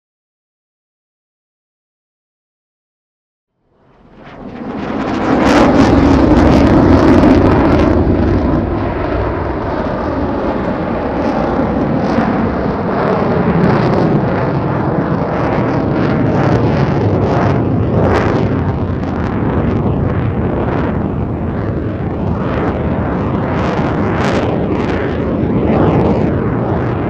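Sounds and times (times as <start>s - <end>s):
jet engine roar: 3.6s - 27.0s.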